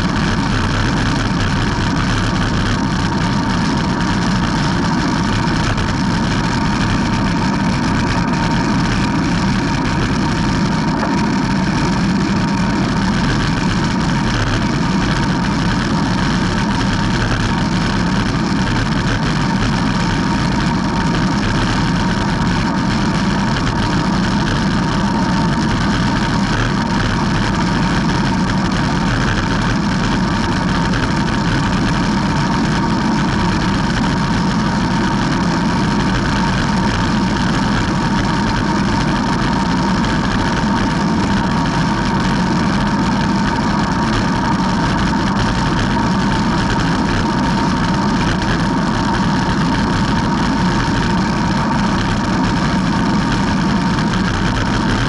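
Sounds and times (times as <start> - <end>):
bicycle tyre noise: 0.0 - 55.0
faint steady hum: 0.0 - 55.0
wind rush on microphone: 0.0 - 55.0.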